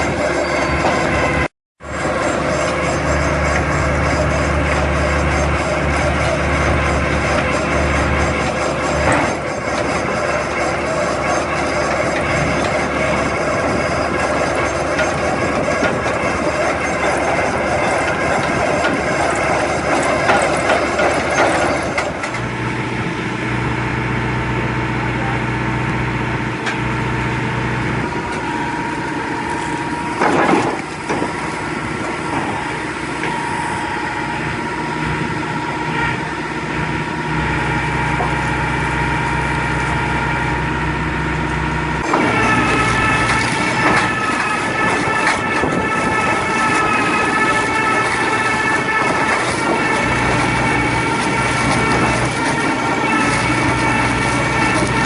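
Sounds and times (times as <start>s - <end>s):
debarking machine running: 0.0s - 55.0s.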